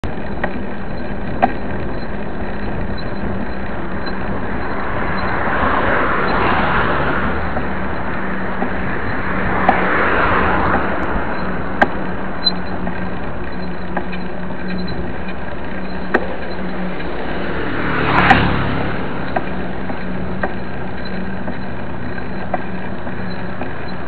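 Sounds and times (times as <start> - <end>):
small clicks: 0.0 - 24.0
steady traffic hiss: 0.1 - 24.0
cars driving past: 2.4 - 24.0.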